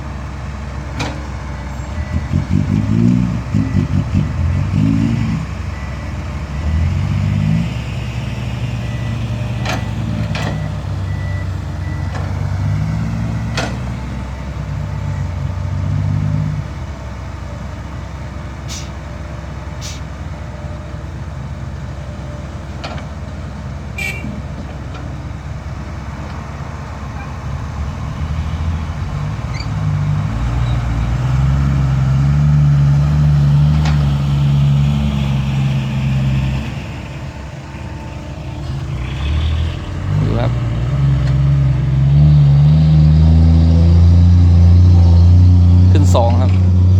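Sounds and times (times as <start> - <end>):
truck diesel engine under load: 0.0 - 46.9.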